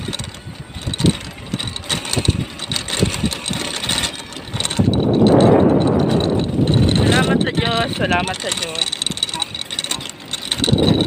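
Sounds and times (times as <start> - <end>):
wind blowing over microphone: 0.0 - 8.6, 10.5 - 11.0
small vehicle rumbling on road: 0.0 - 11.0.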